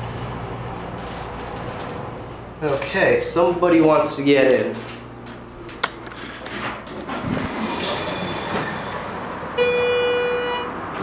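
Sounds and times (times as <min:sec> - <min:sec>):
elevator click and mechanical noise: 0:00.0 - 0:09.9.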